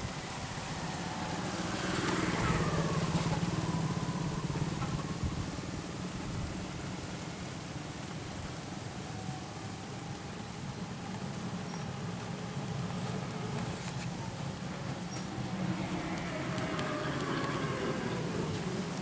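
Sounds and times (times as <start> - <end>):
engine passing by: 0.0 - 8.7, 11.5 - 19.0.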